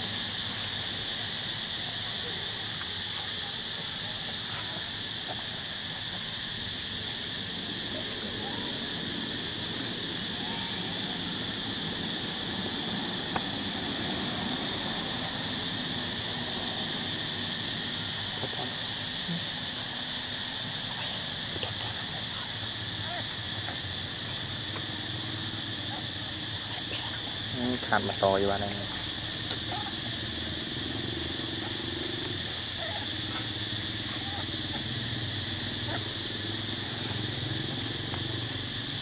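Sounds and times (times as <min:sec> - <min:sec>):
high-pitched insect chorus: 0:00.0 - 0:39.0.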